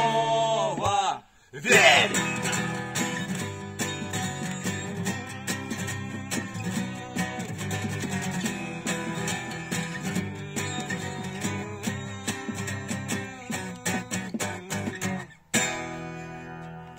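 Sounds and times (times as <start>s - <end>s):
guitar strumming: 0.0s - 0.9s, 1.7s - 16.9s.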